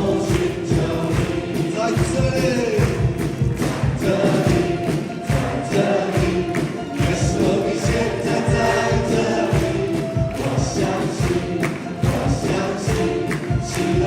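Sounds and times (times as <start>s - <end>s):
band with steady beat: 0.0s - 14.0s
group of voices singing: 0.0s - 14.0s.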